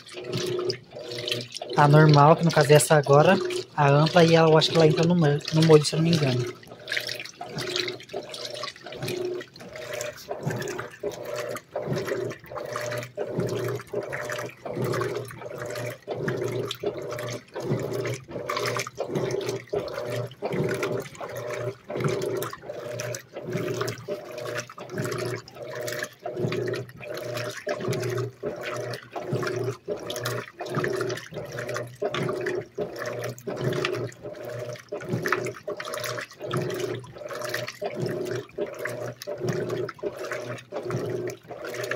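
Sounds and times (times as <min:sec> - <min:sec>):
motor hum: 0:00.0 - 0:41.9
washing machine agitator swishing: 0:00.0 - 0:41.9.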